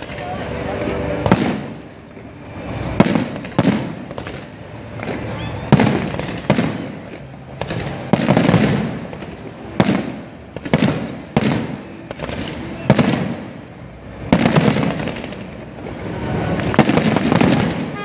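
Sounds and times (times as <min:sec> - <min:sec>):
fireworks bursting with echo: 0:00.0 - 0:18.0.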